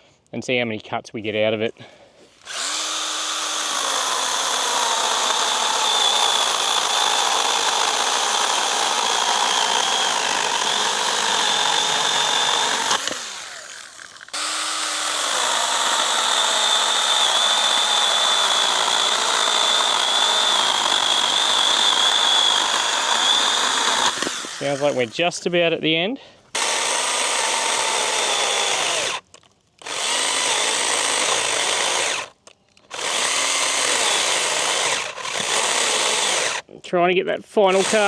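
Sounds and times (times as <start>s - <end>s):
electric chainsaw cutting branches: 2.4s - 25.2s, 26.5s - 36.7s, 37.7s - 38.0s.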